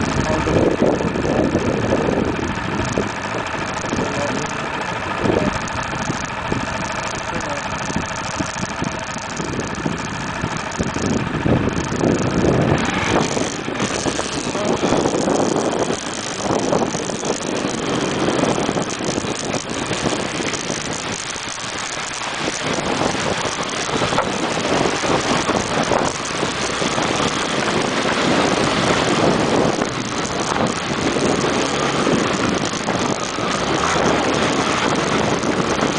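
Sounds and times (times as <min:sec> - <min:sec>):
dense rushing noise: 0:00.0 - 0:35.9
motorcycle engine running: 0:00.0 - 0:35.9.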